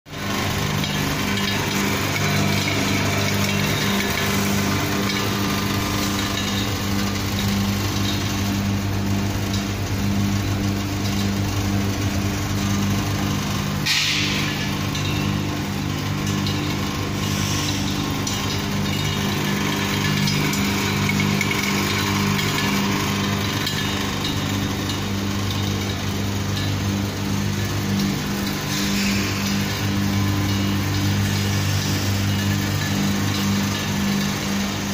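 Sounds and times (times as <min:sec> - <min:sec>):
oil press motor humming: 0:00.1 - 0:34.9.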